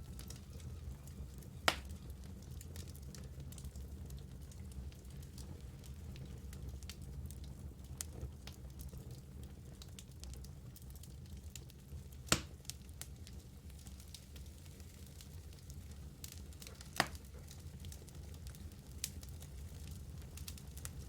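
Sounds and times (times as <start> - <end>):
logs crackling in fireplace: 0.0 - 21.0.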